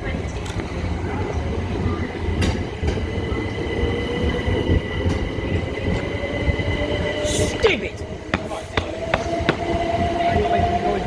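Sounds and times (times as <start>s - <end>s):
electric train whine: 0.0s - 11.0s
low train rumble: 0.0s - 11.0s
train wheels clicking: 1.7s - 11.0s.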